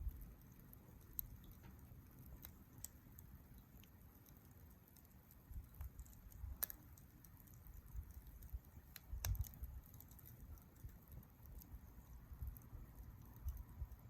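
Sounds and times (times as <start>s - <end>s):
campfire crackling: 0.0s - 14.0s
sharp wood cracks: 0.0s - 14.0s.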